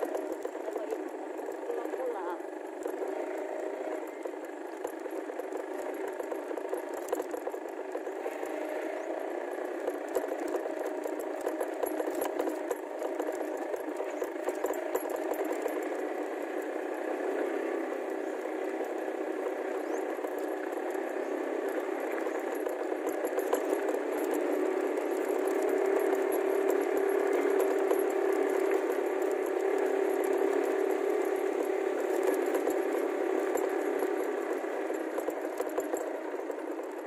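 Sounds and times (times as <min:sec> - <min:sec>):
motorcycle engine running: 0:00.0 - 0:37.0
motorcycle rattling on bumpy track: 0:00.0 - 0:37.0.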